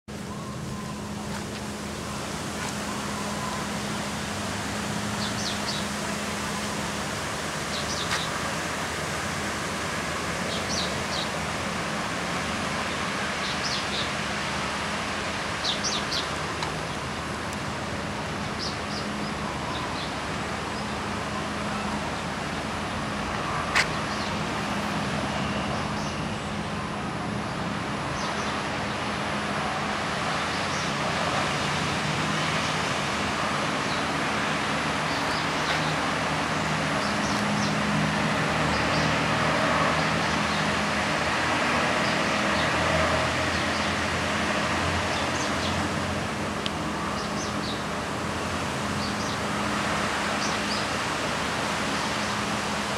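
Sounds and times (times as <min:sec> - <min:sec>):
distant traffic: 0:00.1 - 0:52.9.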